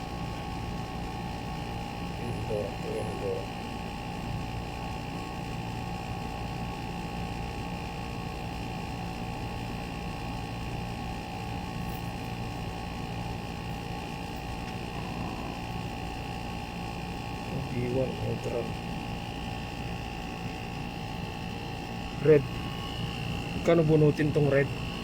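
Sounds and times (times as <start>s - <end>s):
air conditioner unit humming: 0.0s - 25.0s.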